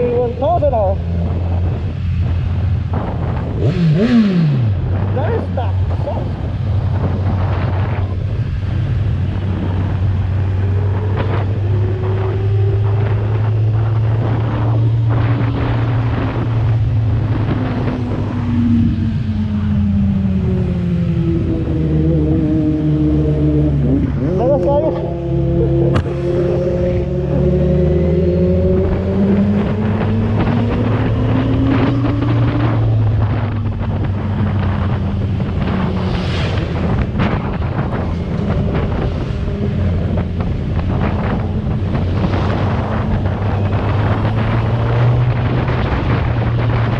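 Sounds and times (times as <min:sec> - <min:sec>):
motorcycle engine cruising: 0:00.0 - 0:46.9
wind over microphone: 0:00.0 - 0:46.9.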